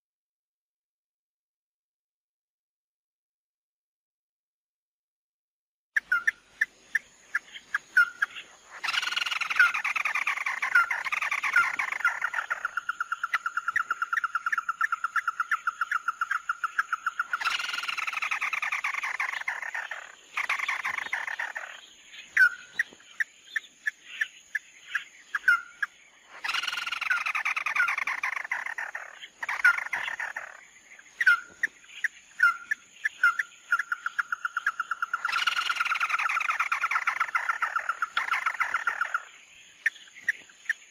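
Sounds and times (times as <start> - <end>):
bird calls and trills: 6.0 - 40.9.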